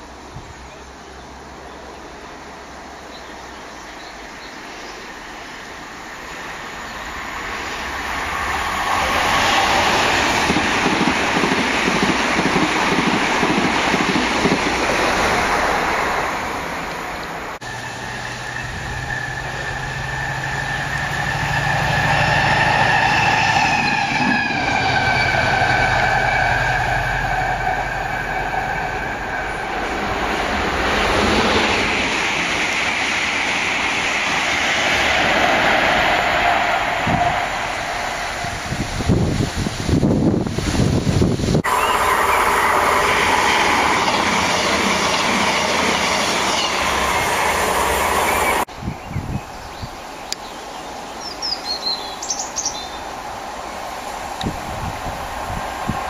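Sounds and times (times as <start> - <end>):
diesel locomotive engine drone: 0.0 - 48.9
express train rushing past: 0.0 - 49.5, 50.8 - 56.0
train rushing past: 4.1 - 48.8, 50.9 - 56.0.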